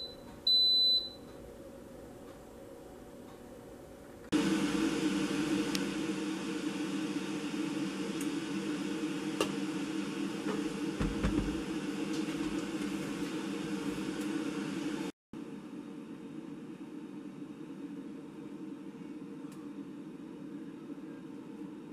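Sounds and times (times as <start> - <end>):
steady mechanical hum: 0.0 - 21.9.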